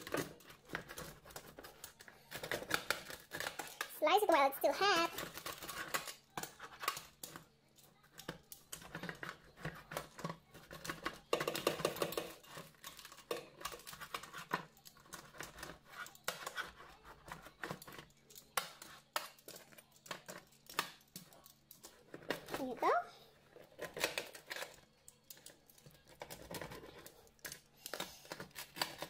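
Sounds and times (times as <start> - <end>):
pizza cutter crunching through crust: 0.0 - 22.7, 23.4 - 29.0.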